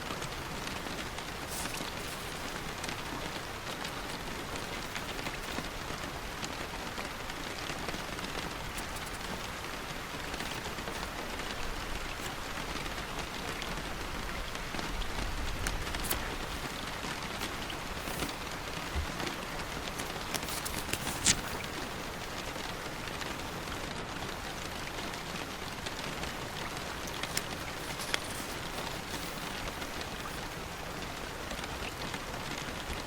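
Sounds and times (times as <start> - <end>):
rain falling on a surface: 0.0 - 33.0.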